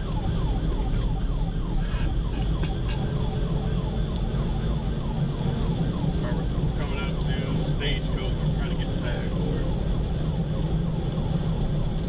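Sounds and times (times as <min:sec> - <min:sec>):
engine and road rumble: 0:00.0 - 0:12.0
police siren yelping: 0:00.0 - 0:12.0.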